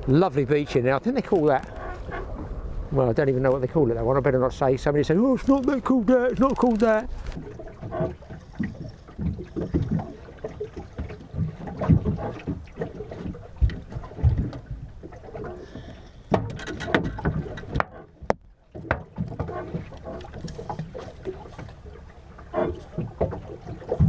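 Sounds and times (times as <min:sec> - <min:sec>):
water slapping boat hull: 0:00.0 - 0:24.0.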